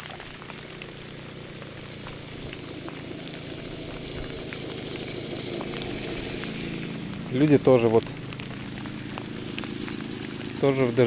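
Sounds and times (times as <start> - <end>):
drops ticking: 0.0 - 11.0
low rumble: 0.0 - 11.0
rain pattering: 0.0 - 11.0.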